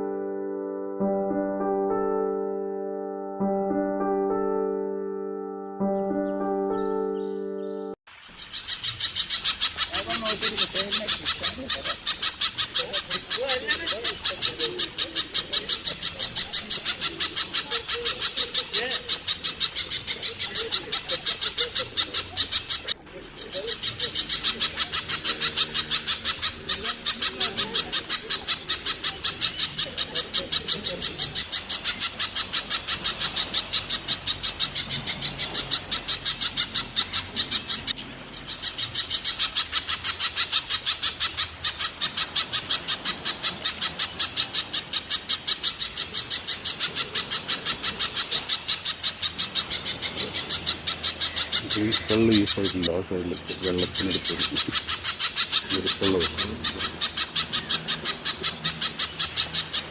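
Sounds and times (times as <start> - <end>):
fowl-like bird calls: 8.4 - 59.9.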